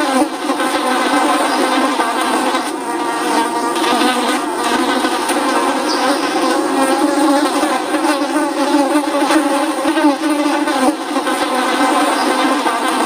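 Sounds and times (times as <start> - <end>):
flies buzzing: 0.0 - 13.0.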